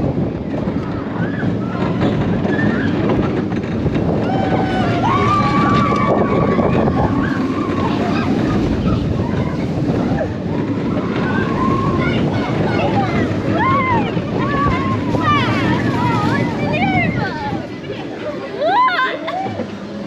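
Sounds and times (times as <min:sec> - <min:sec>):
wind rushing over microphone: 0:00.0 - 0:18.4
roller coaster running on track: 0:00.0 - 0:20.0
riders shrieking and whooping: 0:00.8 - 0:17.6.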